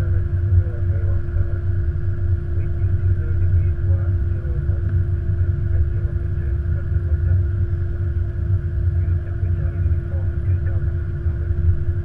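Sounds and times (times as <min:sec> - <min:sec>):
constant hum: 0:00.0 - 0:12.0
low rumble of wheels and engines: 0:00.0 - 0:12.0.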